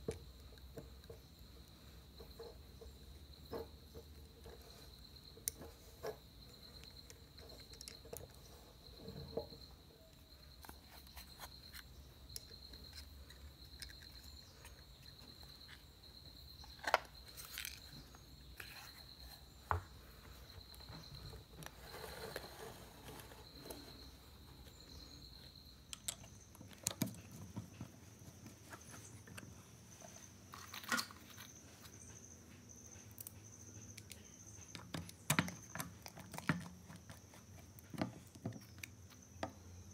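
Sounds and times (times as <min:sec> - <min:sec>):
high insect trill: 0:00.0 - 0:39.9.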